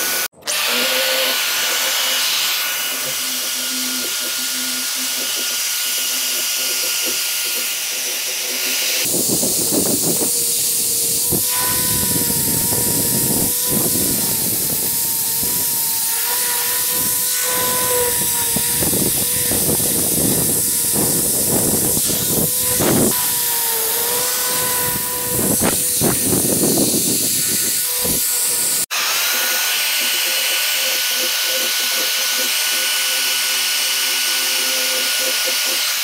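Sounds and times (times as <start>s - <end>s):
grinder motor whine: 0.0s - 36.0s.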